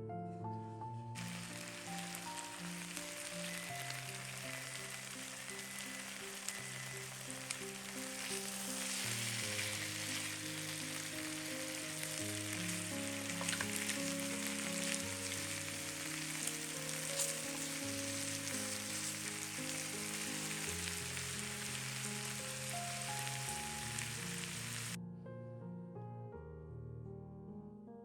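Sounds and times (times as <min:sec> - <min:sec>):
piano music: 0:00.0 - 0:28.0
food sizzling in a frying pan: 0:01.2 - 0:25.0.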